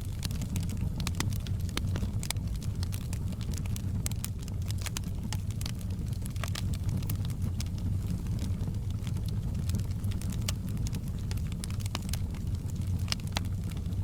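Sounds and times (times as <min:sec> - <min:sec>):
burning wood crackling and popping: 0:00.0 - 0:14.0
fire flames rumbling: 0:00.0 - 0:14.0.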